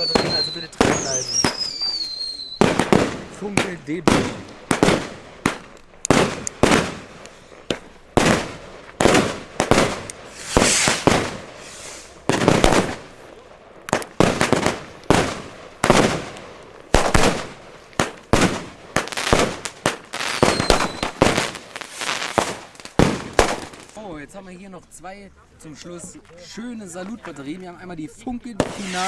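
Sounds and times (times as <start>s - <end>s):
firecracker bangs echoing: 0.0s - 24.0s, 28.6s - 29.0s.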